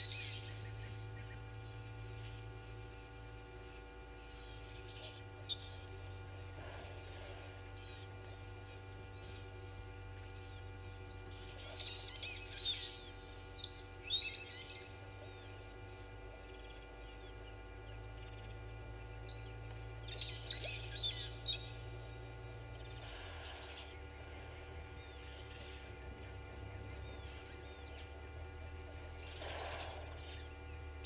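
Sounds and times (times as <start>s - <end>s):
birds shrill chirps: 0.0s - 3.0s, 3.7s - 28.2s, 29.1s - 30.9s
steady low hum: 0.0s - 31.0s.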